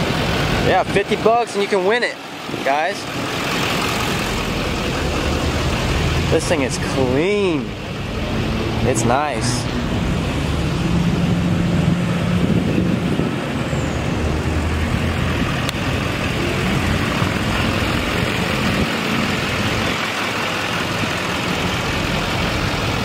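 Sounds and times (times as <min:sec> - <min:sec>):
outdoor noise: 0:00.0 - 0:23.0
truck engine idling: 0:00.0 - 0:23.0.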